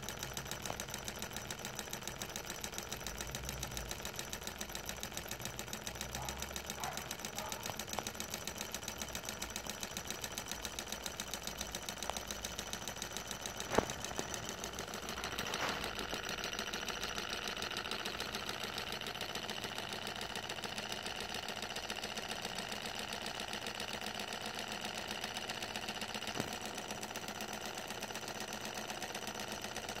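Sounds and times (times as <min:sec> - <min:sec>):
hot-air engines mechanical ticking: 0:00.0 - 0:30.0.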